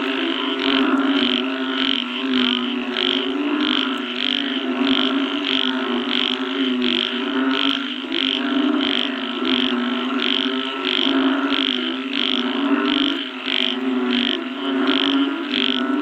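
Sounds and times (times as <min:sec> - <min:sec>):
high-pitched pulsing frog call: 0:00.0 - 0:16.0
low droning frog chorus: 0:00.0 - 0:16.0.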